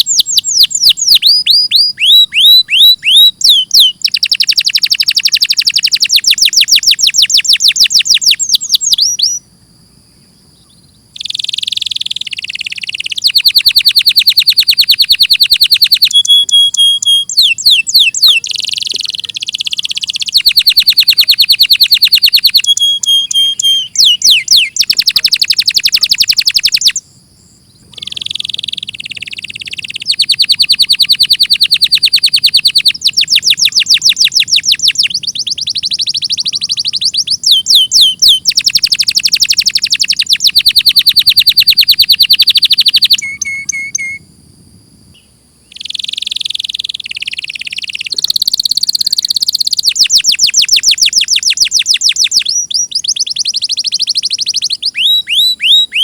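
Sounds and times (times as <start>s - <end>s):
canary singing trills: 0.0s - 44.3s, 45.1s - 56.0s.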